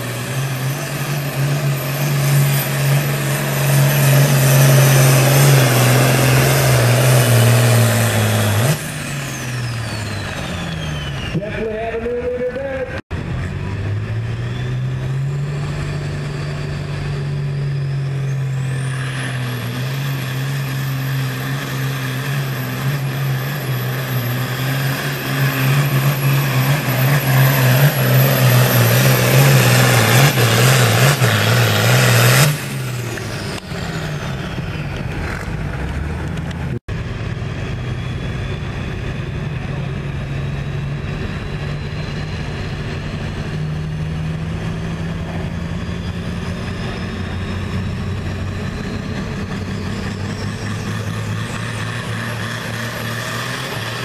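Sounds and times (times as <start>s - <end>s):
tractor diesel engine: 0.0s - 54.0s
turbo whine: 0.0s - 54.0s.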